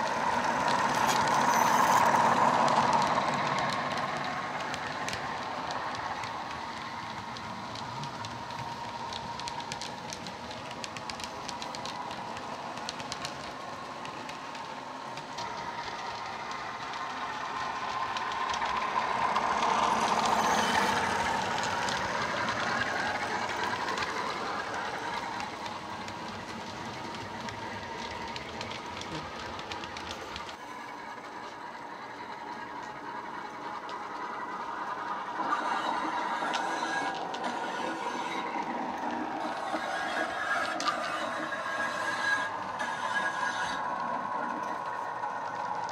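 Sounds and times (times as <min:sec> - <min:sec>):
model wheels clicking over rail joints: 0:00.0 - 0:45.9.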